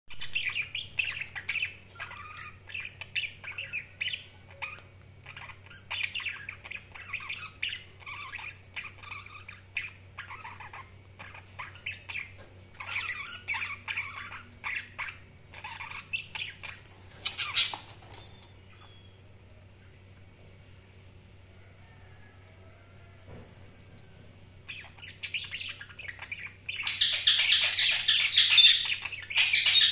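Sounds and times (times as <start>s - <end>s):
budgerigars chirping and warbling: 0.1s - 19.4s, 24.5s - 29.9s.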